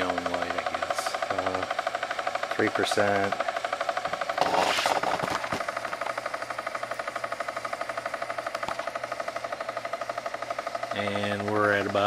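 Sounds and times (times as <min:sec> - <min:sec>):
motor buzzing pulse: 0:00.0 - 0:12.0.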